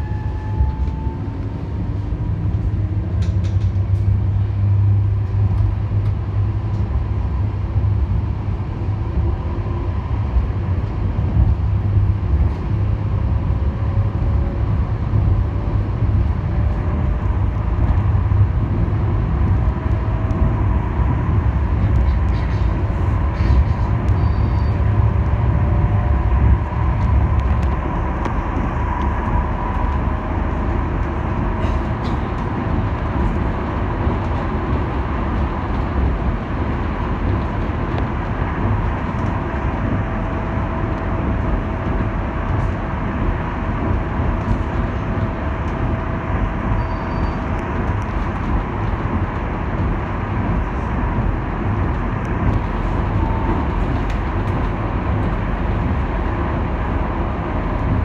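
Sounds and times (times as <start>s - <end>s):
tram wheels rumbling on rail: 0.0s - 58.0s.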